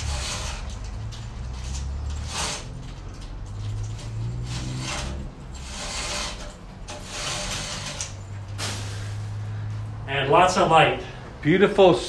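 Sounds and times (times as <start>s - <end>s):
roller shade mechanism rattling: 0.0s - 11.2s.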